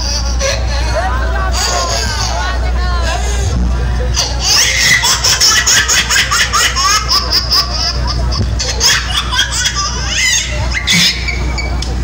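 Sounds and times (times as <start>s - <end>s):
crowd shouting and laughing: 0.0s - 12.0s
steady low hum: 0.0s - 12.0s.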